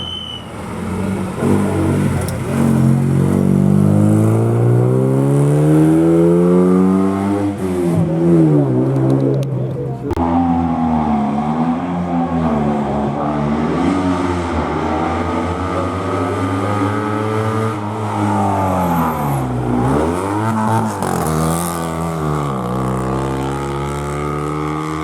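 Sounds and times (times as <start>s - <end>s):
rally car engine revving: 0.6s - 25.0s.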